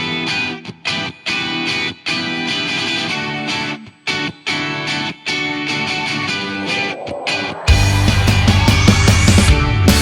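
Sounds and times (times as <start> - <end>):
guitar music: 0.0 - 8.7.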